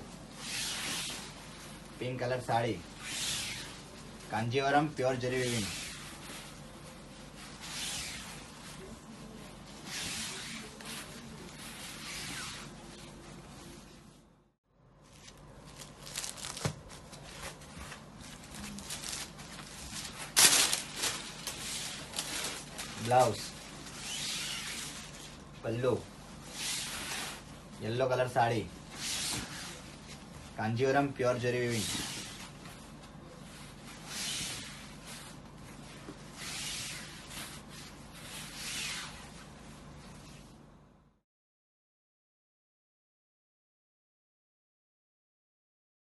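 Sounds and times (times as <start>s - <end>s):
cloth swishing: 0.0s - 14.4s, 15.0s - 40.8s
silk cloth rustling: 0.0s - 14.4s, 15.0s - 40.8s.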